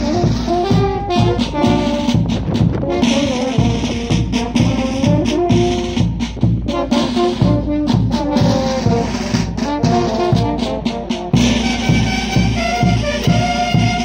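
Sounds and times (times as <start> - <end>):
bass drum beat: 0.0 - 14.0
brass horns melody: 0.0 - 14.0
snare drum: 0.0 - 14.0.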